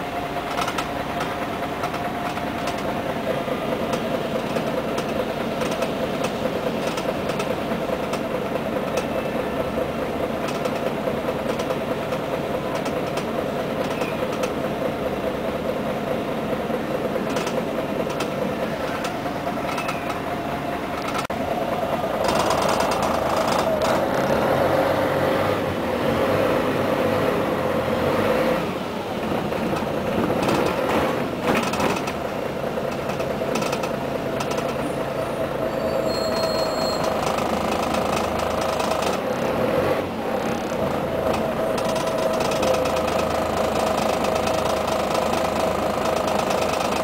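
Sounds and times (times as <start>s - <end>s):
bus diesel engine running: 0.0s - 47.0s.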